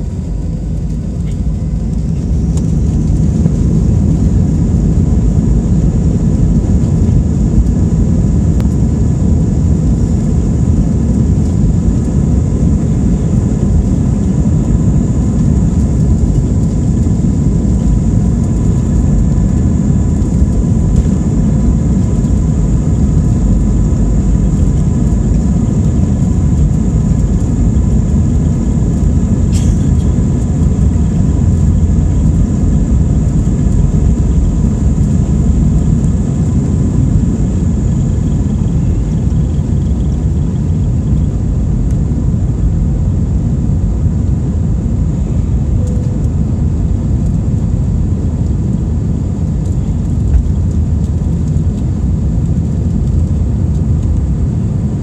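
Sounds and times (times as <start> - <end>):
deep engine rumble with high whine: 0.0 - 55.0.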